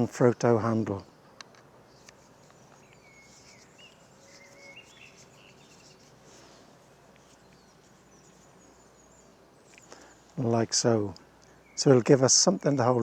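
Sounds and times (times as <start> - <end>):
faint outdoor ambience: 0.0 - 13.0
soft bird chirps: 1.0 - 13.0.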